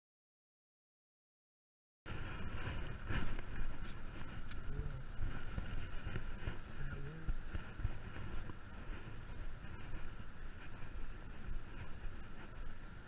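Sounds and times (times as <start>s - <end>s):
wind buffeting microphone: 2.1s - 13.0s.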